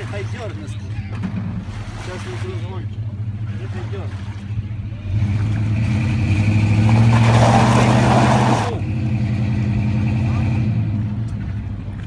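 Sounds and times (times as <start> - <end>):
vehicle engine revving: 1.1 - 12.0.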